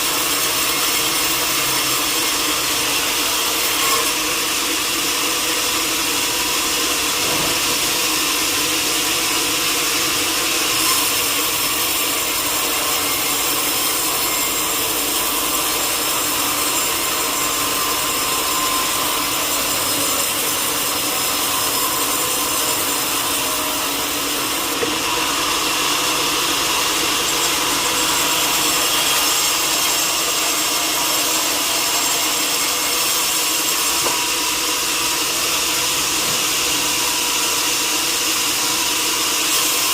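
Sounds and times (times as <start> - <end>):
saw cutting through timber: 0.0 - 39.9.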